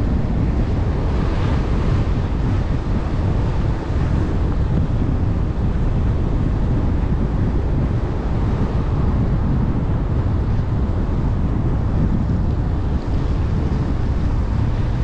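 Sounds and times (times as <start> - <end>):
road and tyre noise: 0.0 - 15.0
wind buffeting microphone: 0.0 - 15.0.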